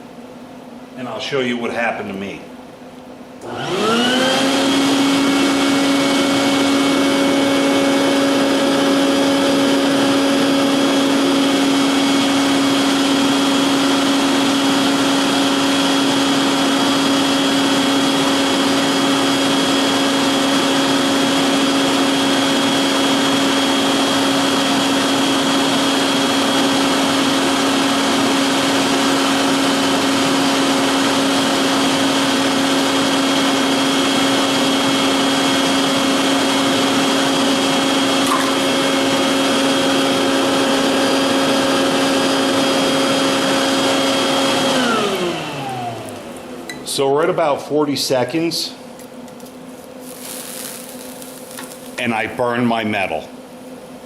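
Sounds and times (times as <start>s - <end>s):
forge blower whining: 0.0s - 54.0s.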